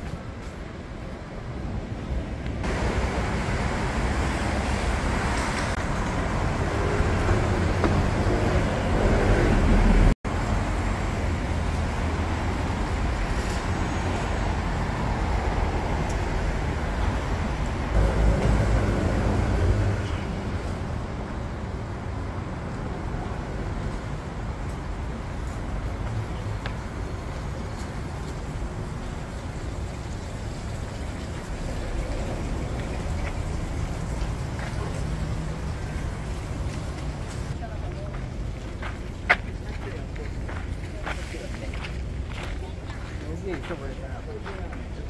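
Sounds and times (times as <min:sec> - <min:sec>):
steady traffic hum: 0:00.0 - 0:45.0
vehicles passing on street: 0:00.0 - 0:45.0.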